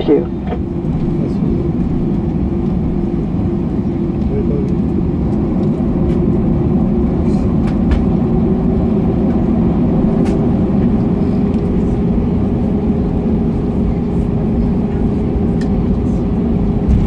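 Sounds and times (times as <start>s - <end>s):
aircraft cabin low rumble: 0.0s - 17.0s.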